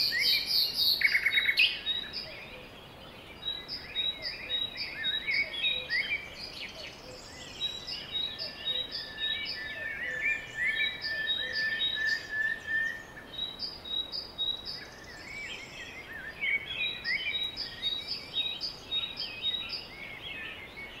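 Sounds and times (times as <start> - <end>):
many birds chirping and singing: 0.0 - 21.0.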